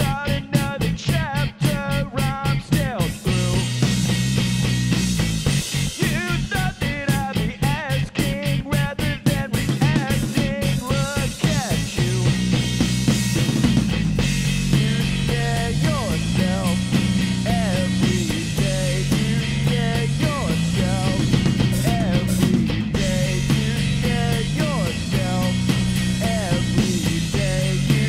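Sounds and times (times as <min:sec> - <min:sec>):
rock band playing live: 0:00.0 - 0:28.0
drum hits: 0:03.3 - 0:08.5, 0:09.4 - 0:28.0.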